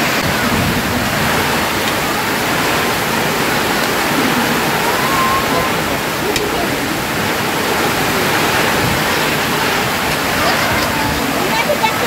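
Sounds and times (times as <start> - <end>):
loud rushing noise: 0.0 - 11.8.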